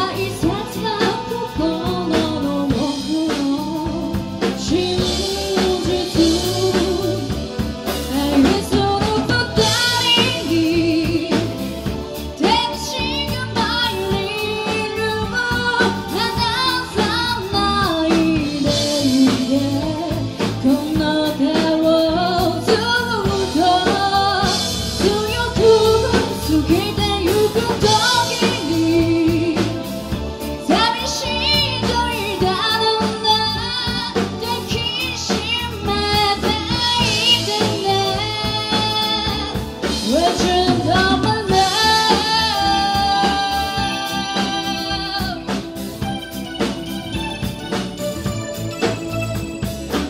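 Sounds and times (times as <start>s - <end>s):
woman singing: 0.0s - 47.2s
live pop band playing: 0.0s - 50.0s.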